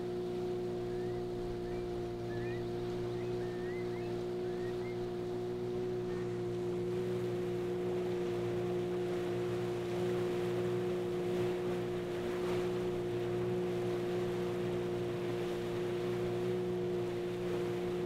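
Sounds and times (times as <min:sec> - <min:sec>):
outboard motor humming: 0:00.0 - 0:18.0
water rushing along hull: 0:00.0 - 0:18.0.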